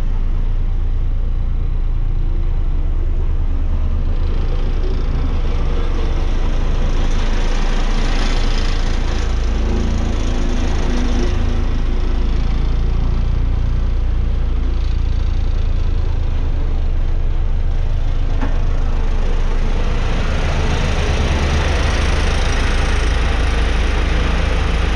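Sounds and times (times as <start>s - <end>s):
diesel roller engine running: 0.0s - 24.9s.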